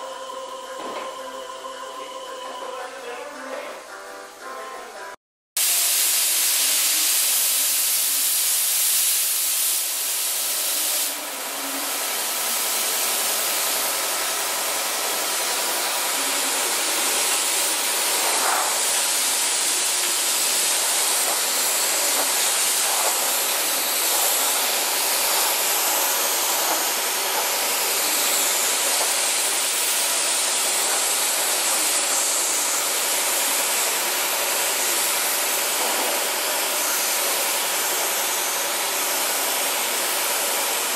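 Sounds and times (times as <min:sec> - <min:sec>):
paint spray gun hissing: 0:05.6 - 0:40.9.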